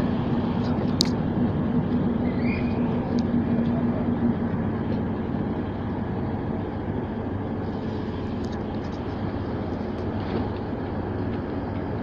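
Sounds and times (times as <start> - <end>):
low rumble: 0.0 - 12.0
train engine hum: 0.0 - 12.0.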